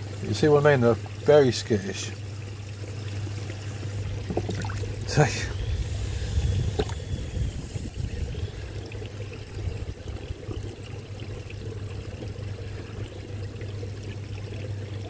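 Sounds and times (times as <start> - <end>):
water sloshing in a plastic tub: 0.0 - 5.8, 6.7 - 7.1, 8.1 - 15.0
steady low hum: 0.0 - 15.0.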